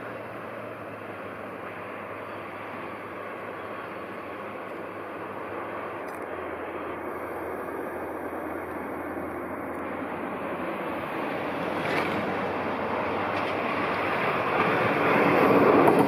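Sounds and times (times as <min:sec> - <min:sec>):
freight train running with low hum: 0:00.0 - 0:16.0.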